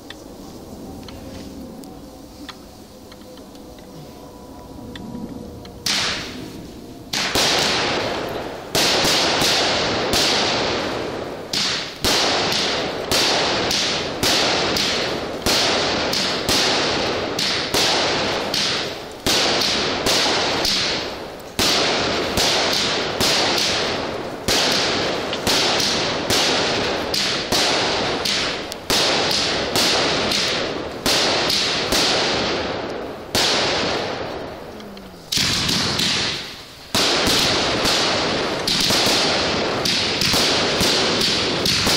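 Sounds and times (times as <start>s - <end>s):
fireworks bangs with hiss: 5.8s - 41.9s.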